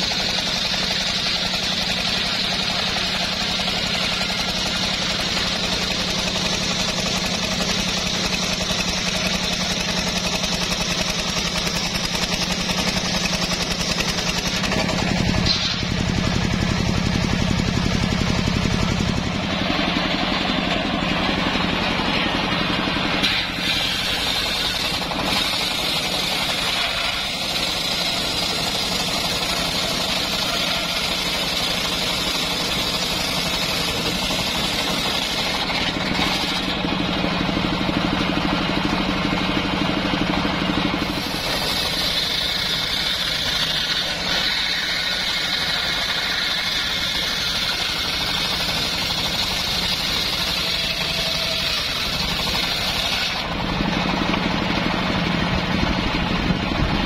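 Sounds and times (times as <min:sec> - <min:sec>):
circular saw blade cutting log: 0:00.0 - 0:57.0
engine humming: 0:00.0 - 0:57.0.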